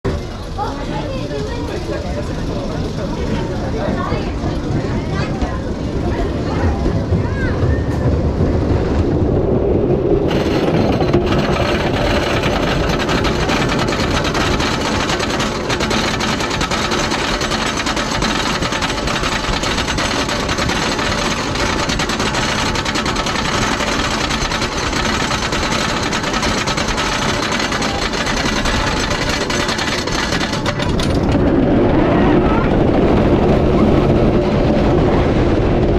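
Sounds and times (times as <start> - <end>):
roller coaster chain rattling: 0.1 - 35.9.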